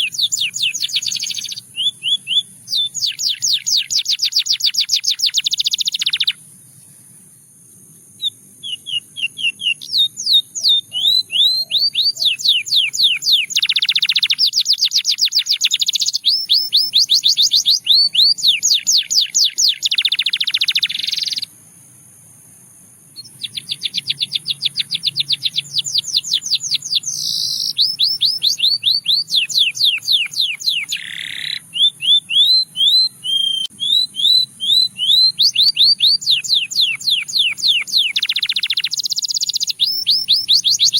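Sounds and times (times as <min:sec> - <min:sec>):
canary singing: 0:00.0 - 0:06.9, 0:08.1 - 0:21.5, 0:23.2 - 0:40.9.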